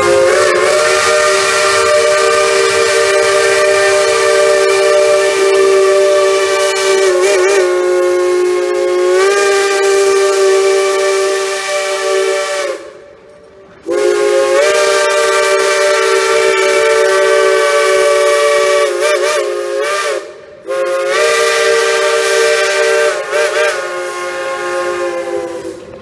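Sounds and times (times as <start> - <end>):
steam whistle blasts: 0.0 - 13.2, 13.8 - 25.9
steam hissing: 0.0 - 26.0.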